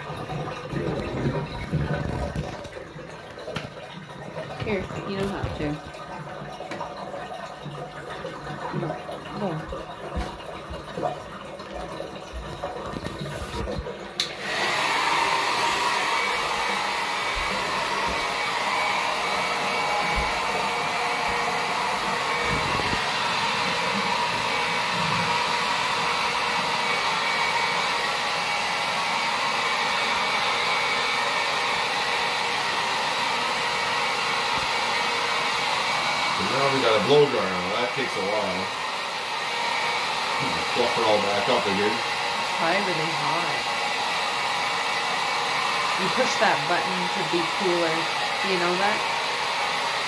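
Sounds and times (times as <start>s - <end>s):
hair dryer blowing: 0.0s - 2.8s, 4.4s - 6.0s, 12.9s - 50.0s.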